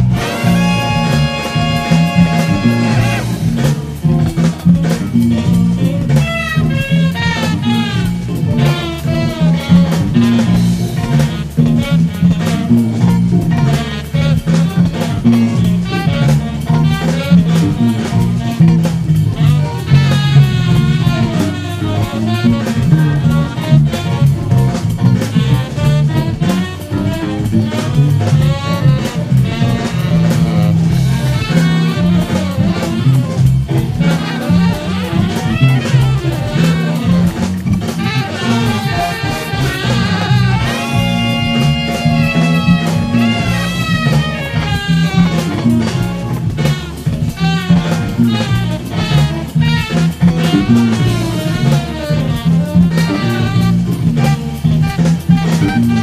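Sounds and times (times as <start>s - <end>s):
electric bass funk line: 0.0s - 56.0s
recorded band playing: 0.0s - 56.0s.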